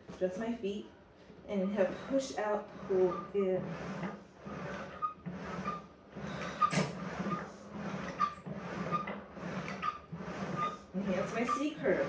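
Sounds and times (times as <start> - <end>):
reformer carriage rolling on rails: 1.5 - 12.0.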